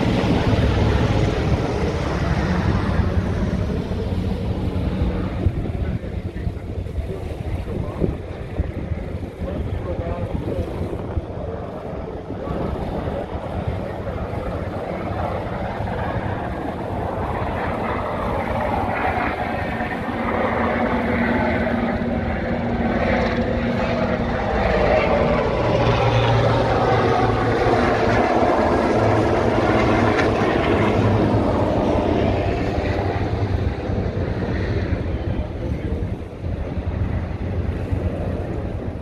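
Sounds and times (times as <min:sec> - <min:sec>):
helicopter flying low past: 0:00.0 - 0:39.0.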